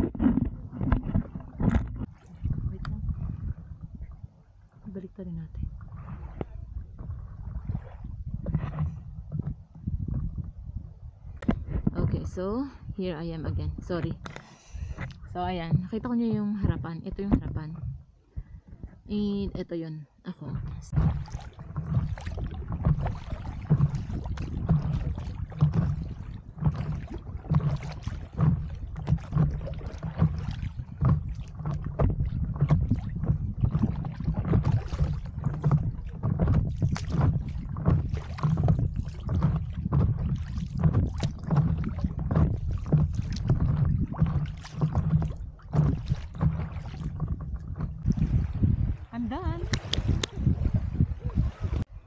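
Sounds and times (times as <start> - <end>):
water splashing against paddleboard: 0.0 - 4.2, 5.6 - 10.6, 13.9 - 18.9, 20.5 - 52.0
wind rumble on microphone: 0.0 - 52.0.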